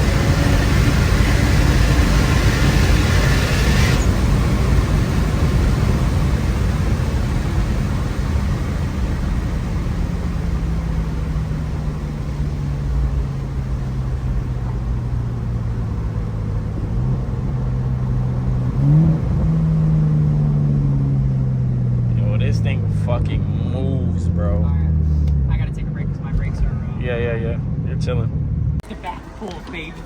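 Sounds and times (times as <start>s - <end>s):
car engine running at low revs: 0.0s - 30.0s
road rumble: 0.0s - 30.0s.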